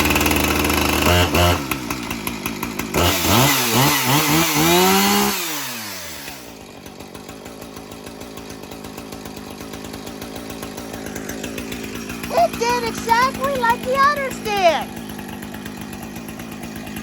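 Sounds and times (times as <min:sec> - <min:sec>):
chainsaw revving and idling: 0:00.0 - 0:17.0.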